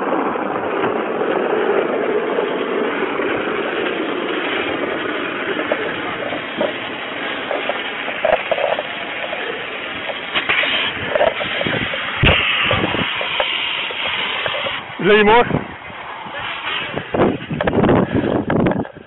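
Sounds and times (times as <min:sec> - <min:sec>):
fire extinguisher hissing: 0:00.8 - 0:19.0.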